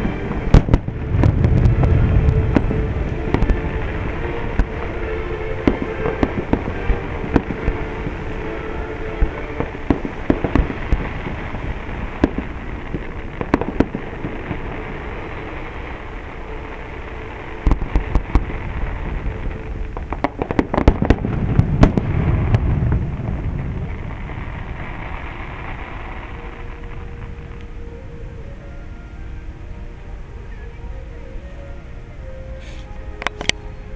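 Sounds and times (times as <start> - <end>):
fireworks bangs and crackles: 0.0 - 27.8
fireworks booms and low rumble: 0.0 - 27.8.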